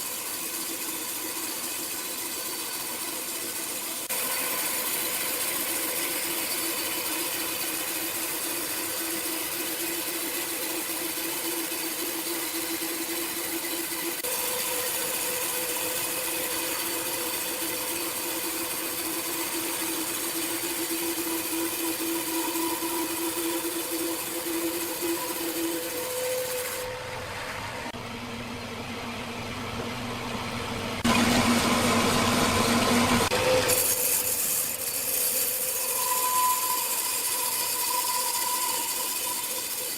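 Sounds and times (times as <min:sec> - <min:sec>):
power saw running: 0:00.0 - 0:39.9.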